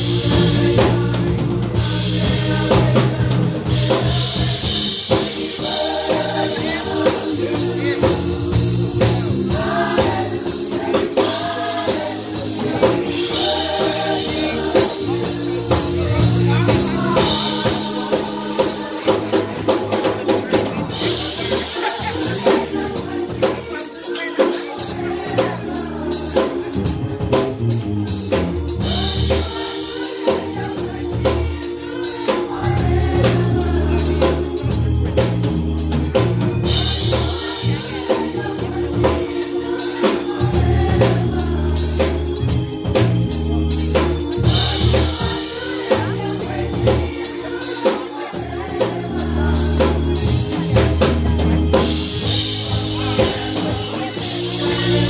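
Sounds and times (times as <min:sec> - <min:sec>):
bass: 0:00.0 - 0:23.8, 0:24.8 - 0:47.6, 0:48.3 - 0:55.0
drum kit beat: 0:00.0 - 0:55.0
gospel choir singing: 0:00.0 - 0:55.0.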